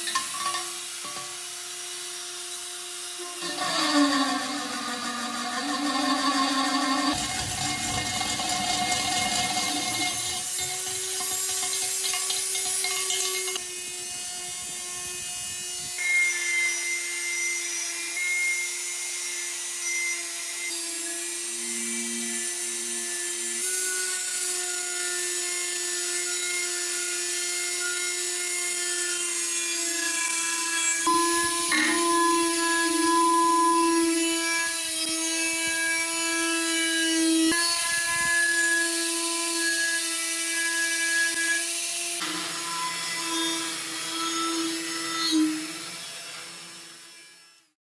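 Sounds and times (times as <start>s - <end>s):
power tool motor humming: 0.0s - 47.6s.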